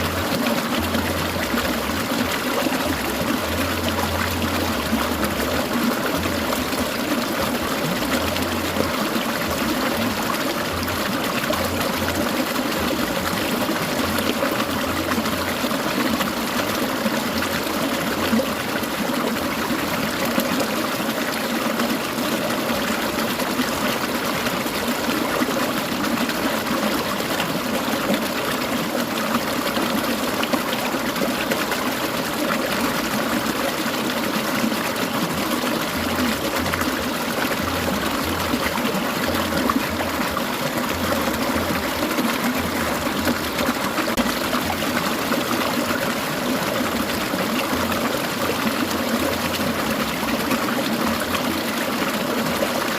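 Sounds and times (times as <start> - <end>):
stream babbling: 0.0 - 52.9.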